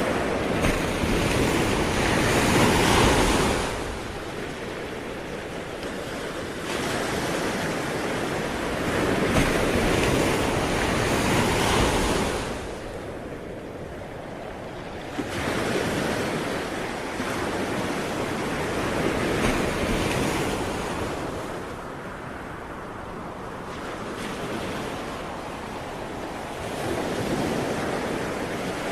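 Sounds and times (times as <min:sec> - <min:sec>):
sea waves surging and washing back: 0:00.0 - 0:28.9.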